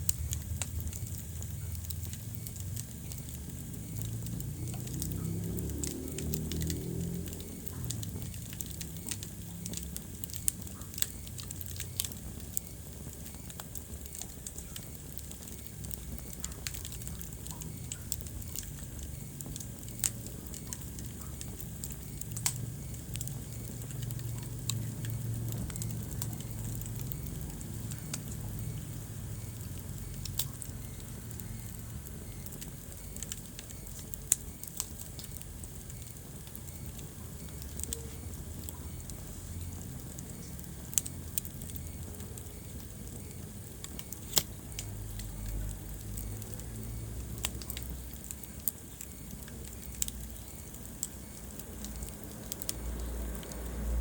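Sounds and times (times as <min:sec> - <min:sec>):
sharp pops of fire: 0:00.0 - 0:54.0
wood fire crackling: 0:00.0 - 0:54.0.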